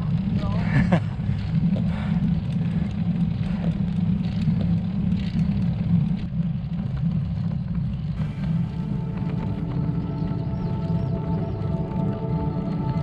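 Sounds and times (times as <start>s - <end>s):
bike tyres on asphalt: 0.0s - 13.0s.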